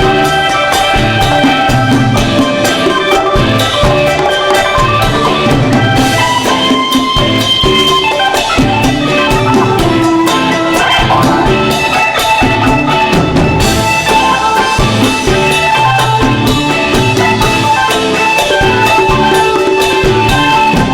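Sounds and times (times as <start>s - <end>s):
drum kit beat: 0.0s - 20.9s
organ chords: 0.0s - 20.9s.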